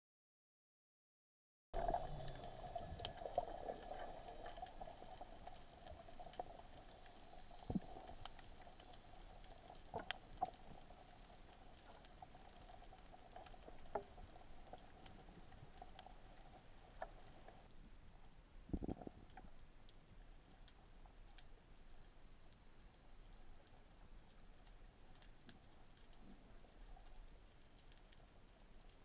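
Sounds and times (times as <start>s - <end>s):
faint underwater hiss: 1.8s - 29.0s
small clicks and crackles: 1.8s - 29.0s.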